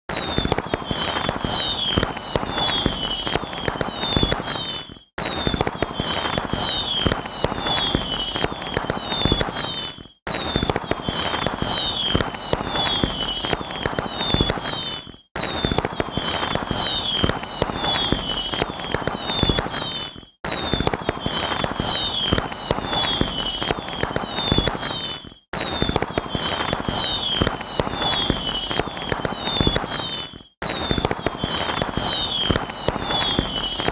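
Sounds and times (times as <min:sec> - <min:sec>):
falling whistle chirps: 0:00.1 - 0:33.9
fireworks crackling and popping: 0:00.1 - 0:33.9.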